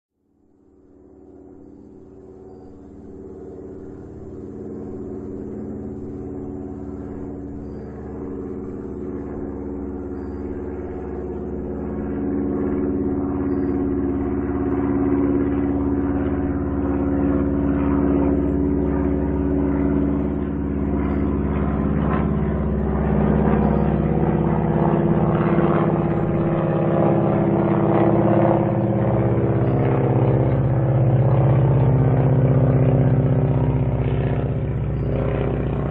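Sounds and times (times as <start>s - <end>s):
propeller airplane engine droning: 0.3s - 35.9s.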